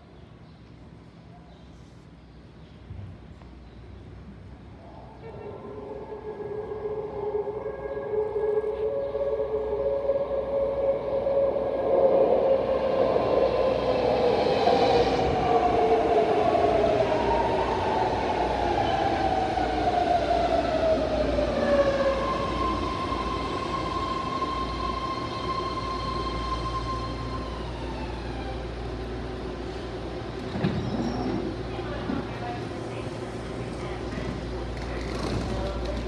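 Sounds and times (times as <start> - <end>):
train propulsion whine: 4.7 - 36.0.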